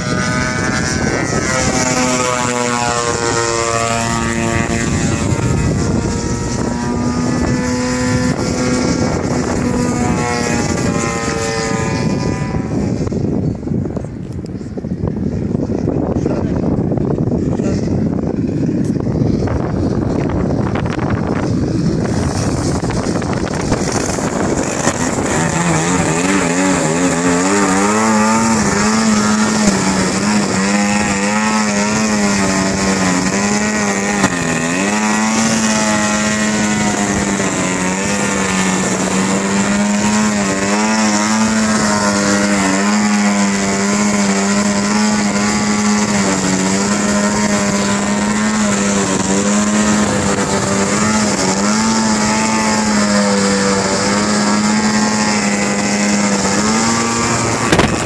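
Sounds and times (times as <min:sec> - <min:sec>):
model plane engine drone: 0:00.0 - 0:58.0.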